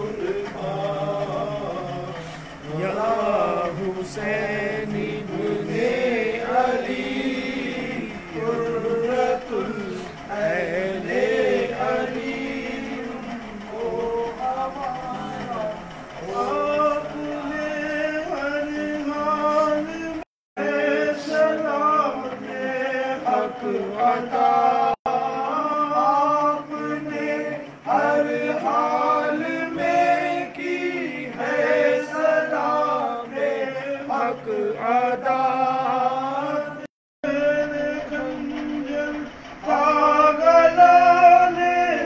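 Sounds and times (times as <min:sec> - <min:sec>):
men chanting: 0:00.0 - 0:42.0.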